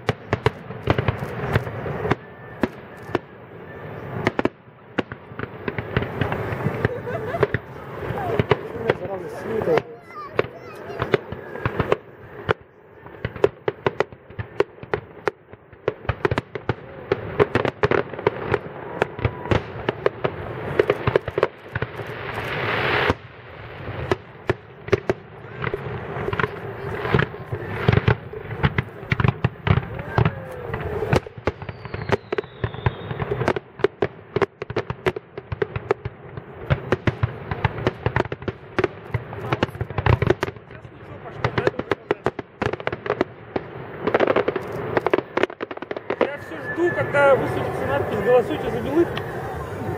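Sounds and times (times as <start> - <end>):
fireworks bursting with bangs: 0.0 - 49.9.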